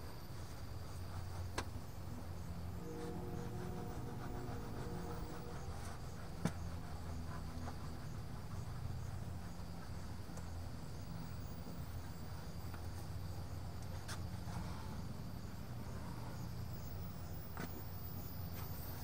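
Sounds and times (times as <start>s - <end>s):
low hum: 0.0s - 18.4s
insects chirping: 0.0s - 19.0s.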